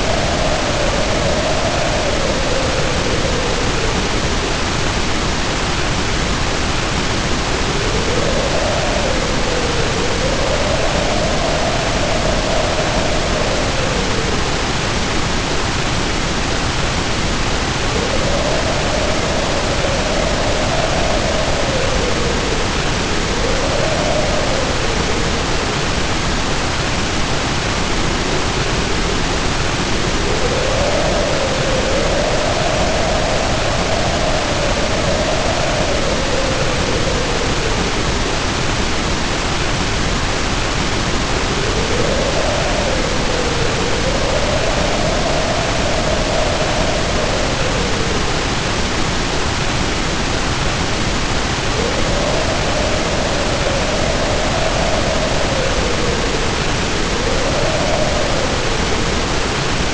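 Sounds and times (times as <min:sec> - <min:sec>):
heavy rain pouring: 0:00.0 - 0:59.9
howling wind: 0:00.0 - 0:59.9.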